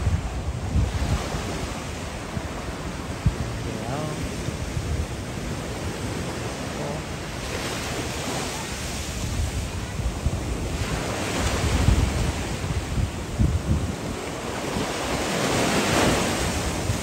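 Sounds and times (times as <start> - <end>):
waves breaking over rocks: 0.0 - 17.0
wind buffeting microphone: 0.0 - 17.0.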